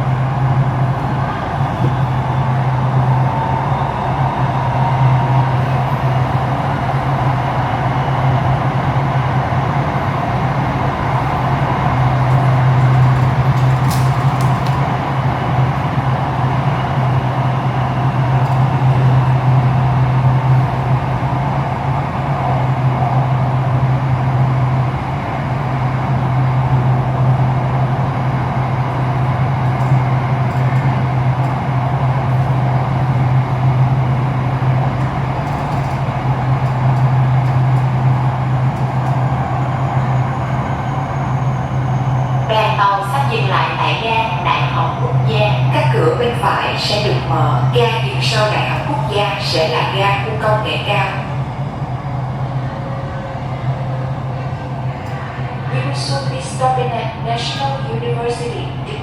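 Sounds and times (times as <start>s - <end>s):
electric train low hum: 0.0s - 59.0s
train rushing noise: 0.0s - 59.0s.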